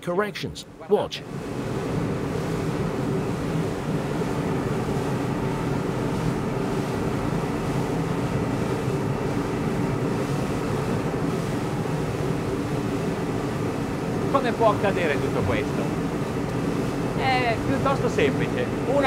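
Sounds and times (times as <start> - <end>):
outboard engines running: 0.0 - 19.0
water rushing past hull: 1.2 - 19.0.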